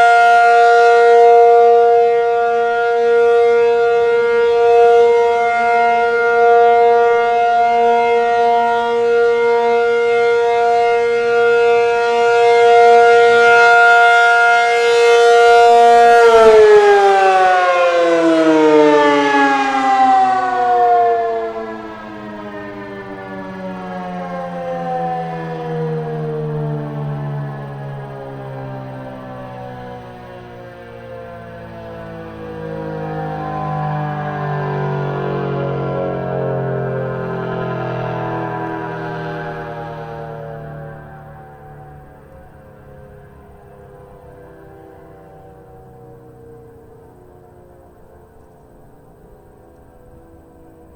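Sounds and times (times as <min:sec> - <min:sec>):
warning siren winding down: 0:00.0 - 0:50.9.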